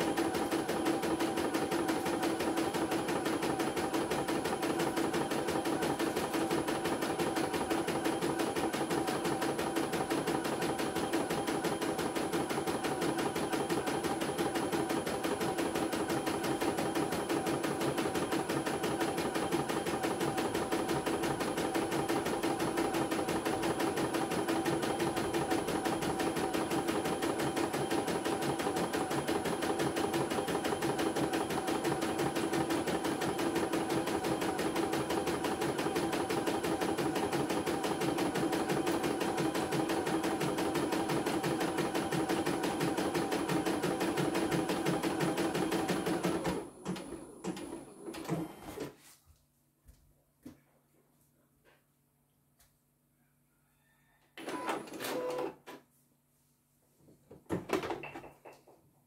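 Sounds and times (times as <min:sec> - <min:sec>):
embroidery machine stitching: 0:00.0 - 0:48.9, 0:54.4 - 0:55.8.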